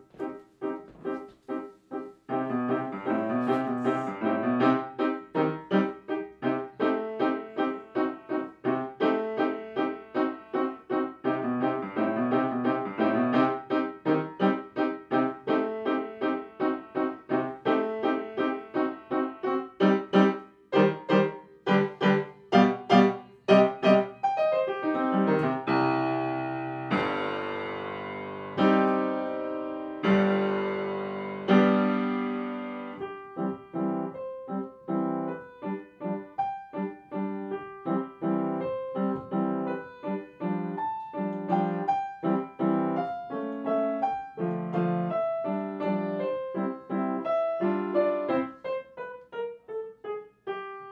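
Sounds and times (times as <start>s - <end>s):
solo piano music: 0.0s - 50.9s.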